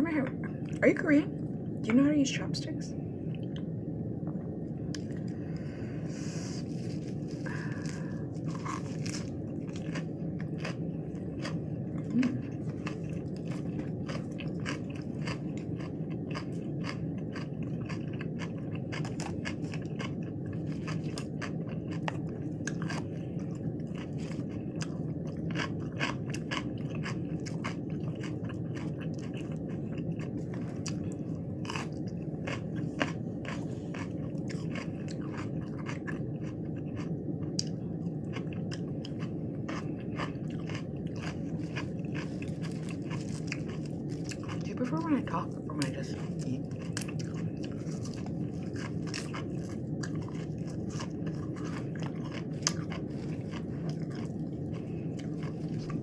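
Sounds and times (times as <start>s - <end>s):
person chewing crunchy food: 3.3s - 56.0s.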